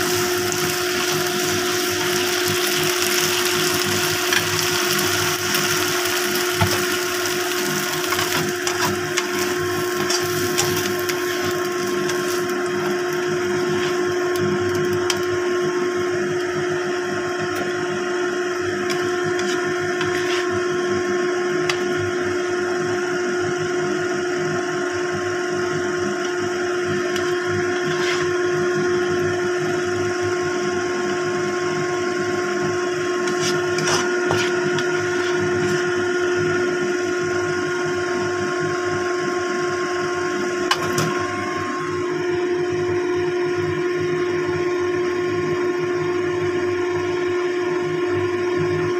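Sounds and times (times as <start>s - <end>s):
stir-fry sizzling in a wok: 0.0s - 24.0s, 26.4s - 44.1s
loud steady hum: 0.0s - 48.9s.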